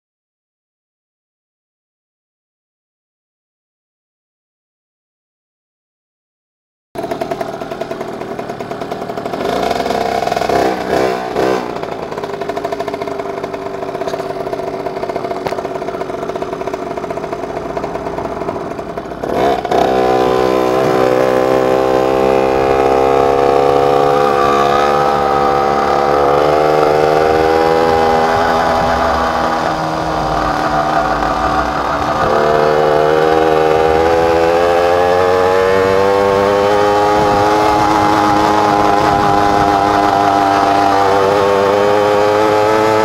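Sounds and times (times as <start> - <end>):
two-stroke engine revving: 7.0 - 43.0.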